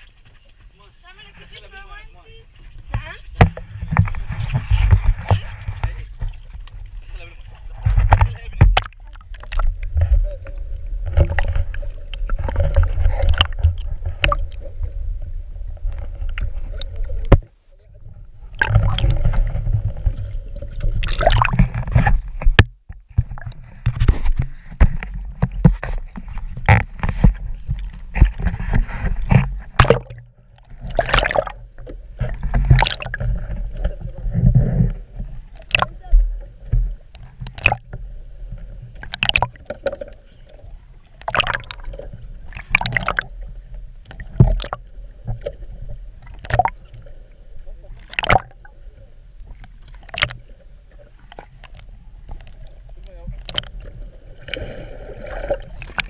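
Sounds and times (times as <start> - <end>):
faint steady hum: 0.0 - 56.0
underwater rumble of moving water: 0.0 - 56.0
splashes and knocks: 2.7 - 15.0, 15.8 - 17.6, 18.5 - 38.0, 38.9 - 47.1, 47.9 - 48.7, 49.4 - 56.0.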